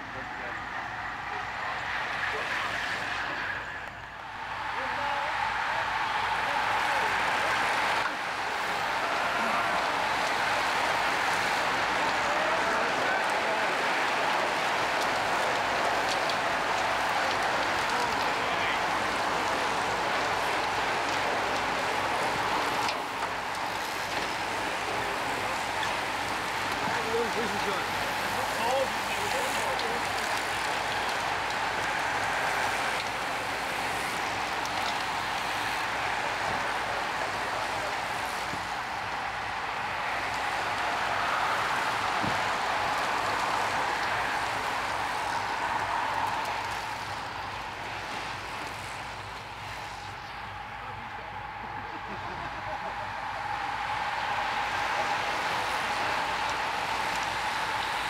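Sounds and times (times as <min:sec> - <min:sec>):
bicycles riding past on asphalt: 0:00.0 - 0:58.0.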